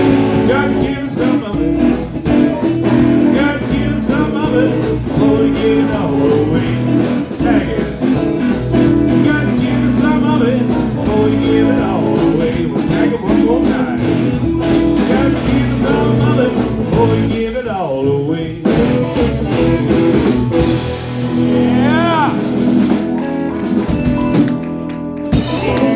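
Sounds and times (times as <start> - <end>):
bass: 0.0 - 25.9
drums: 0.0 - 25.9
electric guitar: 0.0 - 25.9.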